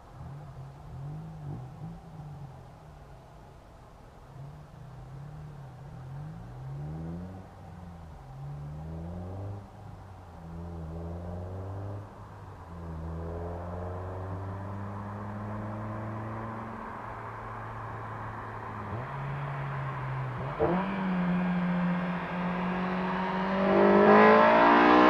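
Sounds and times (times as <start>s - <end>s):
car engine accelerating hard: 4.3s - 25.0s.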